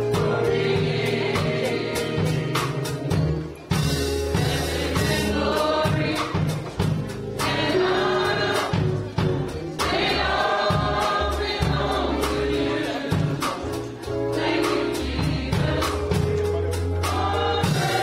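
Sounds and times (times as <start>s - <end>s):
gospel choir singing: 0.0s - 18.0s.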